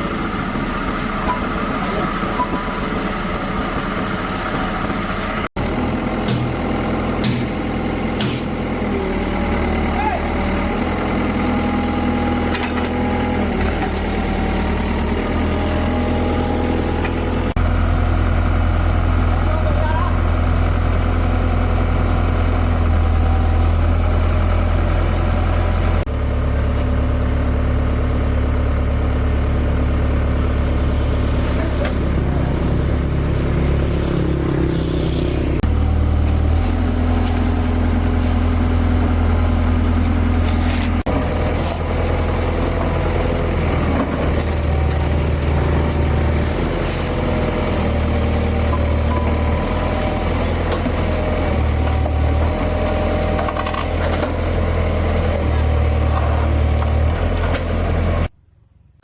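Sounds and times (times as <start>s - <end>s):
heavy engine idling: 0.0s - 58.3s.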